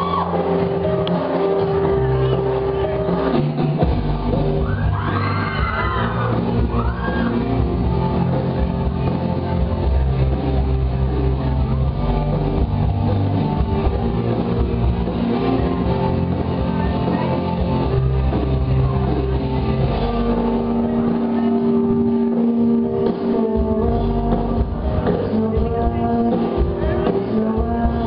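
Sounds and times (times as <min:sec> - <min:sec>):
loud music with guitar and bass: 0:00.0 - 0:28.0.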